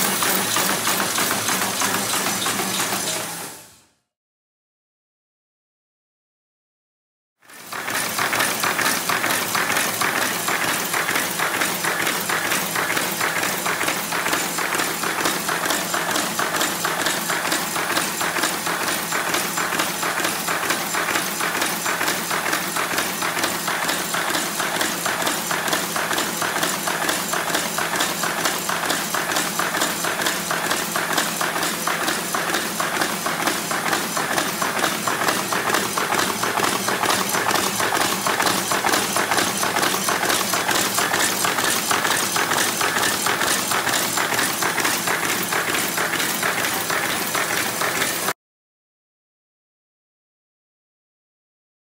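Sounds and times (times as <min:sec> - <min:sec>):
paper folding machine clatter: 0:00.0 - 0:03.5, 0:07.4 - 0:48.4.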